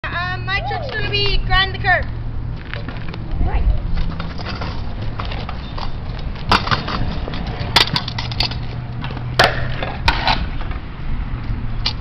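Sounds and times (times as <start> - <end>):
scooter rolling on pavement: 0.0 - 12.0
scooter wheels clacking on concrete: 0.4 - 12.0.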